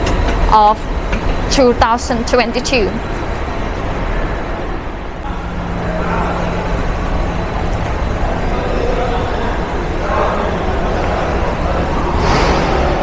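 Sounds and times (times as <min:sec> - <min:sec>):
low rumble of terminal hall: 0:00.0 - 0:13.0
low steady hum: 0:00.0 - 0:13.0.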